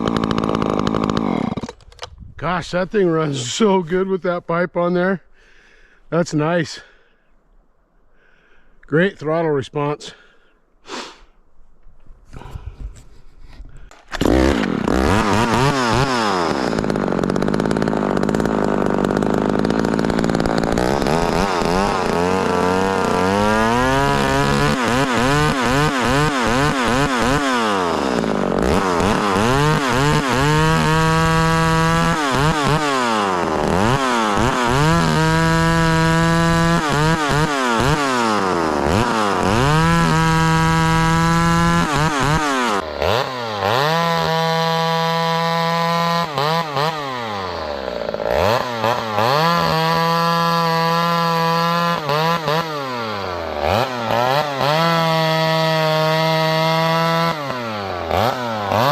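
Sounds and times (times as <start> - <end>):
chainsaw revving: 0.0 - 2.1, 13.8 - 58.9.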